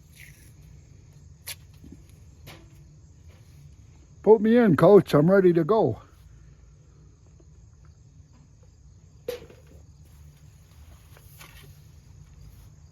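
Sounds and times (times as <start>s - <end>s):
insects chirping: 0.0s - 12.9s.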